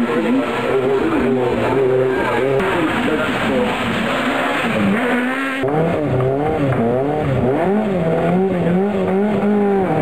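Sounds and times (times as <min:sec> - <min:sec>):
rally car engines revving: 0:00.0 - 0:10.0.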